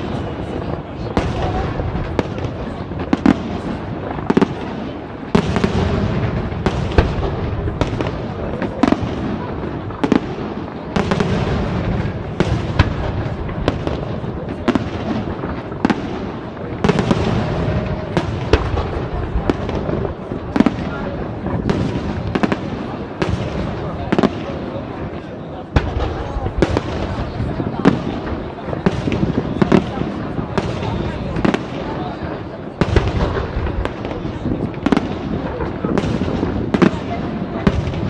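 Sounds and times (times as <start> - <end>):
firework bangs: 0.0 - 38.0
rumble of firework reports: 0.0 - 38.0.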